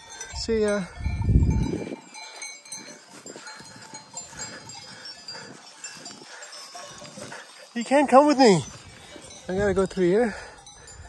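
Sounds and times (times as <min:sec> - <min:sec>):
goat bells clinking: 0:00.0 - 0:11.0.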